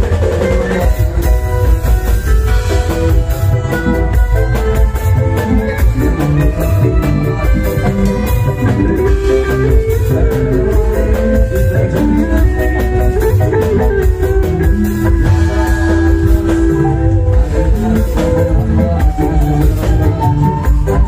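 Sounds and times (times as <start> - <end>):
loud music with heavy bass: 0.0 - 21.0.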